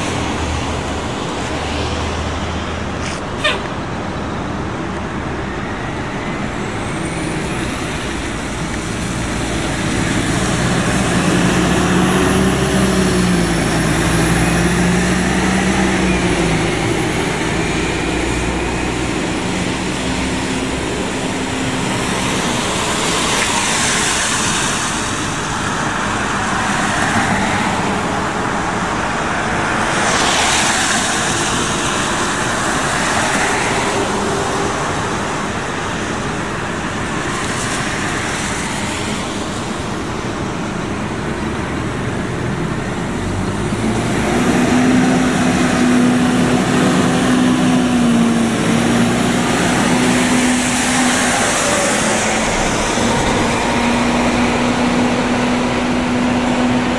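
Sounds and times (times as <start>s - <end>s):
buses driving past: 0.0s - 56.9s.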